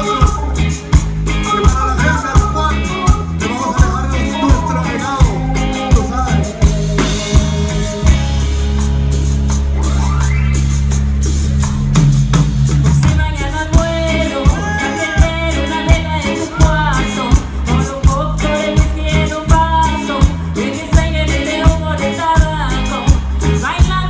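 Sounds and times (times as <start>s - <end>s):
drums playing a steady beat: 0.0s - 24.0s
live band music: 0.0s - 24.0s.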